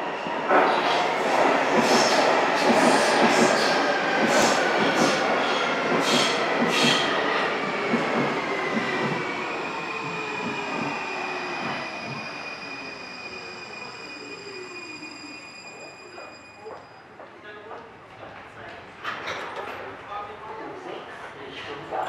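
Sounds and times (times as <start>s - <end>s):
subway train wheel rumble: 0.0s - 22.0s.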